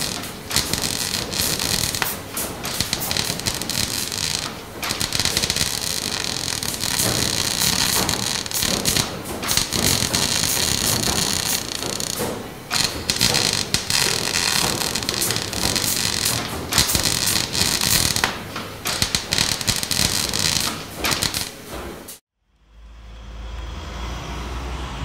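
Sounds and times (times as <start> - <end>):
arc welding crackling sizzle: 0.0 - 22.2.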